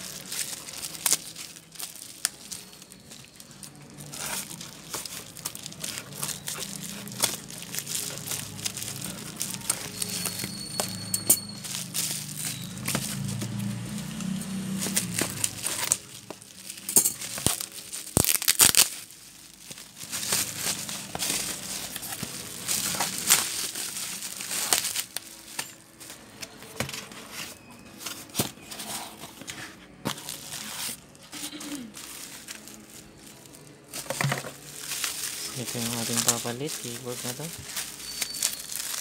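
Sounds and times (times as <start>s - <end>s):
bubble wrap crinkling and rustling: 0.0s - 39.0s.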